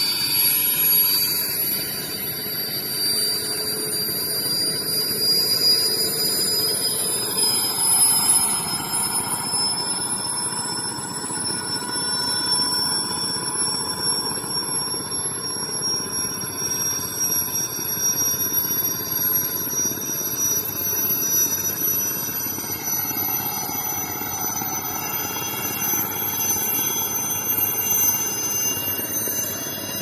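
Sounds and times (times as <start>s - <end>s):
helicopter running: 0.0s - 30.0s.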